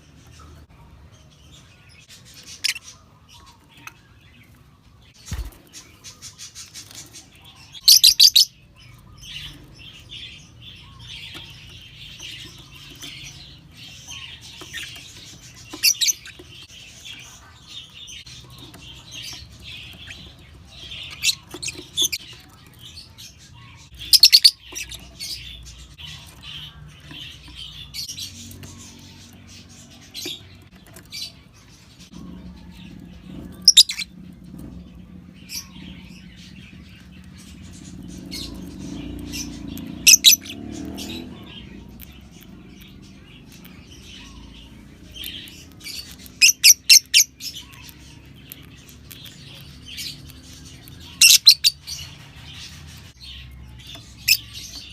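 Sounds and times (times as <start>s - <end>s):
birds chirping shrilly: 0.0s - 54.9s.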